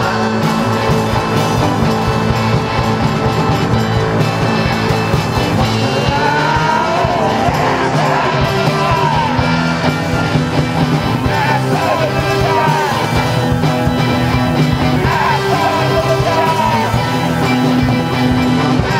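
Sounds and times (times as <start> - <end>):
punk synth band playing: 0.0 - 18.9.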